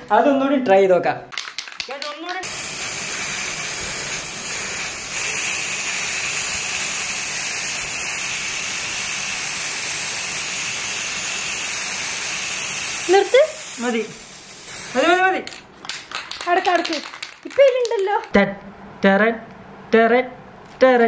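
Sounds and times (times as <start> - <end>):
spray paint cans hissing: 1.4 - 18.3.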